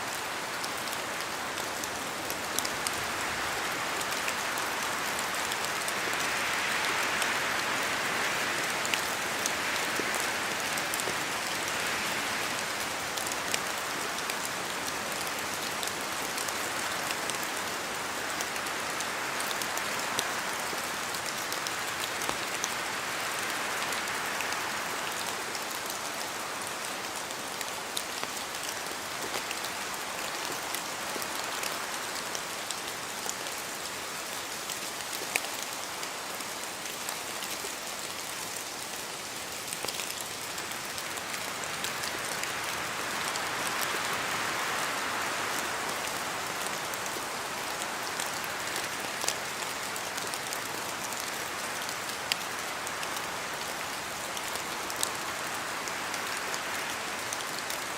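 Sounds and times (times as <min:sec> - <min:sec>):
steady rain in a forest: 0:00.0 - 0:57.9.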